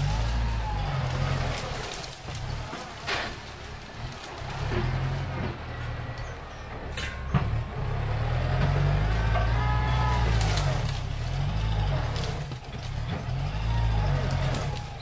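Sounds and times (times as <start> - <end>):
sharp crack: 0.0 - 5.7, 8.6 - 15.0
tractor diesel engine running: 0.0 - 15.0.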